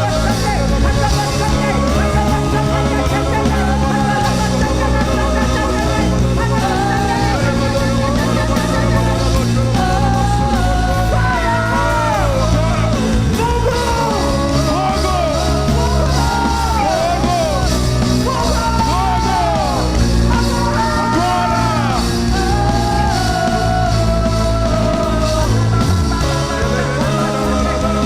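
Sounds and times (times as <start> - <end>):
live worship band music: 0.0 - 28.0
voices singing and calling out: 0.0 - 28.0.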